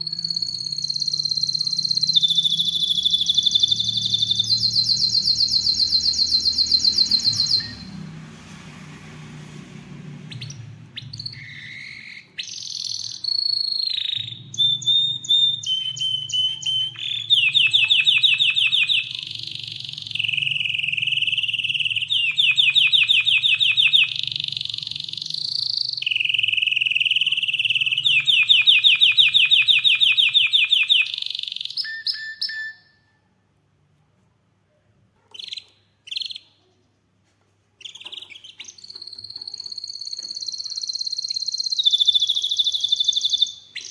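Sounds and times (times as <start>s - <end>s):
canary singing trills and whistles: 0.0s - 8.0s, 10.3s - 33.2s, 35.2s - 36.7s, 37.8s - 43.9s.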